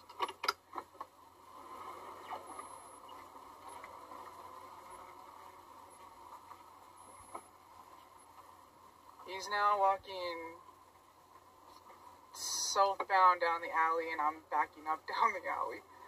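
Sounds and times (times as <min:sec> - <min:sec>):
car cabin engine and tyre noise: 0:00.0 - 0:16.0.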